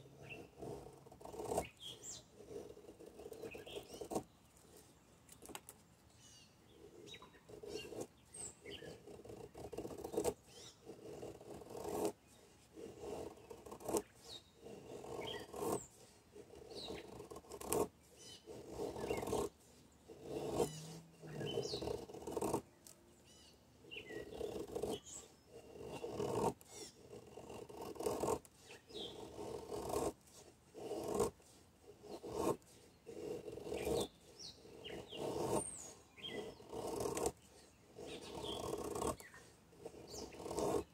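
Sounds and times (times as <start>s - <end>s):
knife scraping wood: 0.0s - 5.8s, 6.8s - 40.9s.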